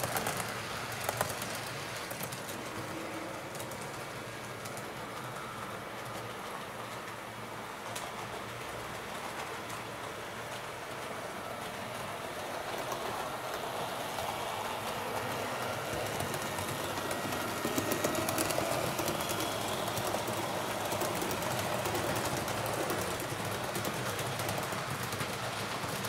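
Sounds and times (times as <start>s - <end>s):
model train wheels rumbling on rail: 0.0s - 26.0s.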